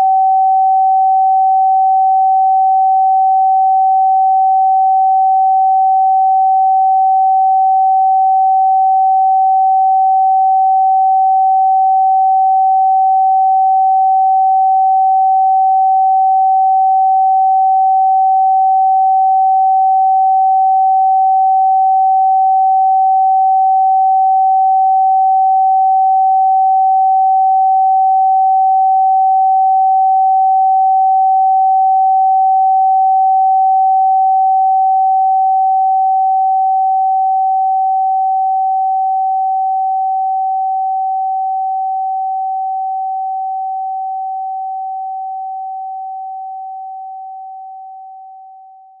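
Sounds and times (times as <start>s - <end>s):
steady sine tone: 0.0s - 49.0s.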